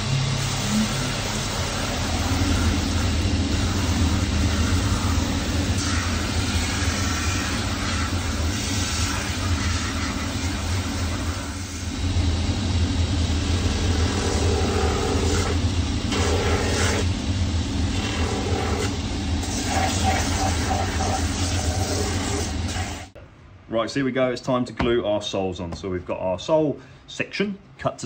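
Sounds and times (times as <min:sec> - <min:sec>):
machine humming: 0:00.0 - 0:23.2.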